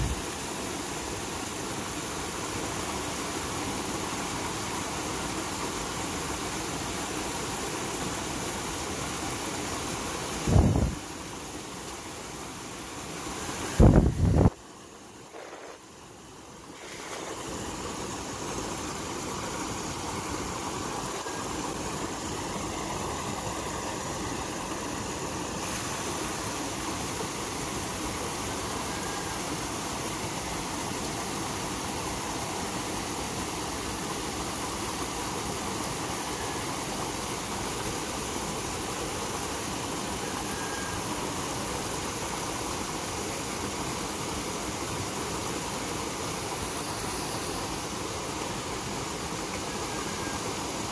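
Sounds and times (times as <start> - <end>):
small waterfall rushing: 0.0 - 50.9.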